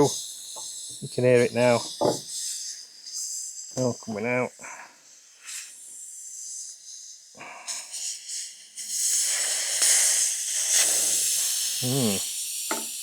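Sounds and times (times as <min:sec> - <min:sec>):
air hissing out of tyre: 0:00.0 - 0:13.0.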